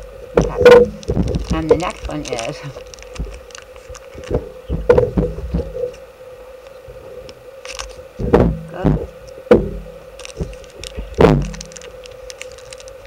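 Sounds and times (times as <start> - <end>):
faint steady hum: 0.0 - 13.0
foil bag handling thumps: 0.3 - 5.9, 7.7 - 13.0.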